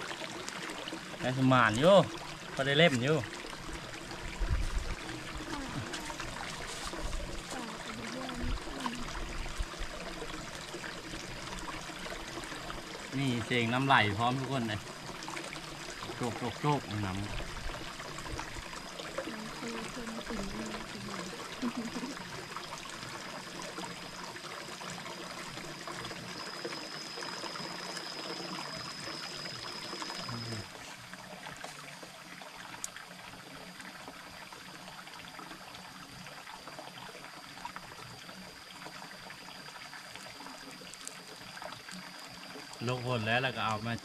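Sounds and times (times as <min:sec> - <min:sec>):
stream water trickling: 0:00.0 - 0:44.0.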